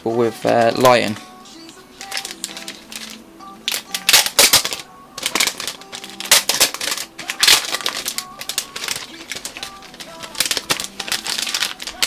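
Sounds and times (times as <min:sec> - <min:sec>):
faint background music: 0:00.0 - 0:12.0
keyboard clicking and crackling: 0:00.0 - 0:12.0.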